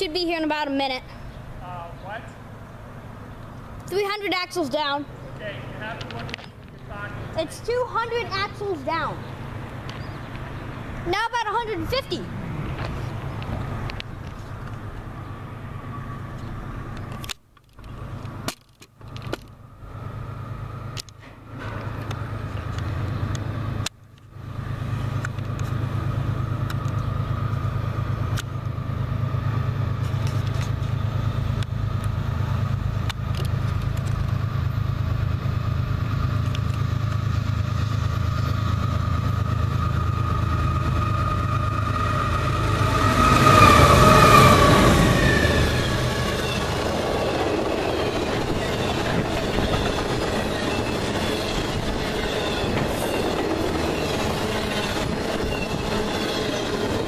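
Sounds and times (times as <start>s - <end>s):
diesel locomotive engine rumble: 0.0s - 57.0s.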